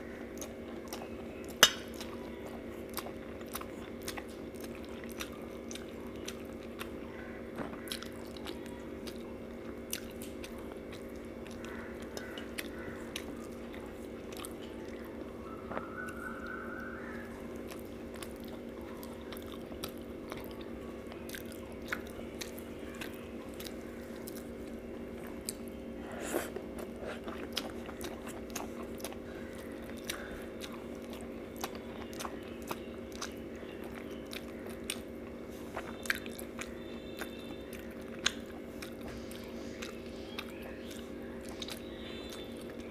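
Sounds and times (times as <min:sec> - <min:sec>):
steady low hum: 0:00.0 - 0:42.9
wet chewing and mouth clicks: 0:00.2 - 0:42.9.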